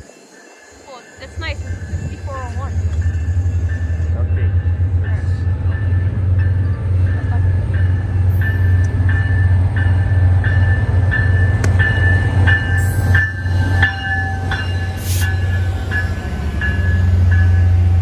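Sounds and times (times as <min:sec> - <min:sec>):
railway warning bell dinging: 0:00.0 - 0:18.0
train engine hum: 0:00.0 - 0:18.0.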